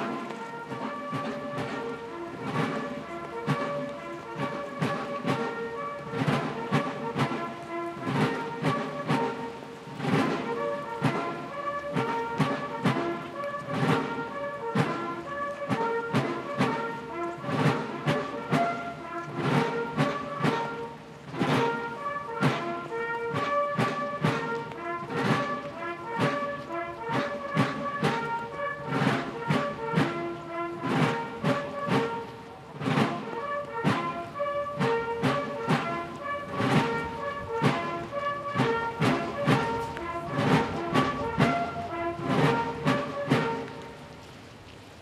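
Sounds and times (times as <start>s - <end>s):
brass band playing a march: 0.0s - 44.4s.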